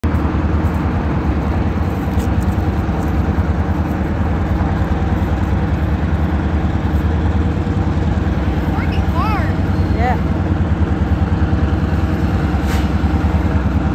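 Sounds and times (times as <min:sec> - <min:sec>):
diesel locomotive engine running: 0:00.0 - 0:13.9.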